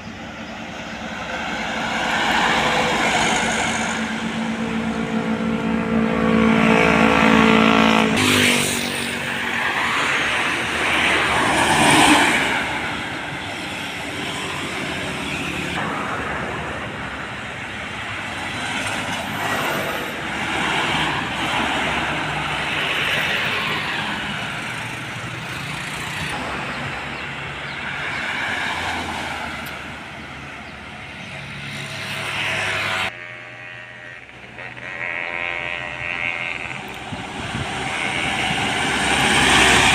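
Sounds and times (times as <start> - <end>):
heavy trucks and buses passing: 0.0 - 39.9
steady engine tone: 0.0 - 39.9.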